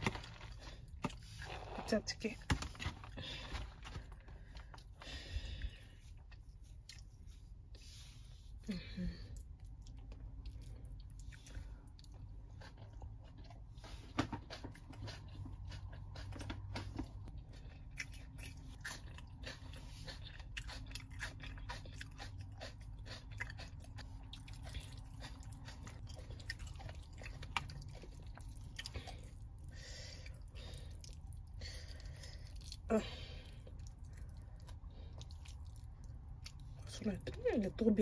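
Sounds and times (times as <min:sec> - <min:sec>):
person chewing food: 0:00.0 - 0:01.8, 0:02.5 - 0:36.9.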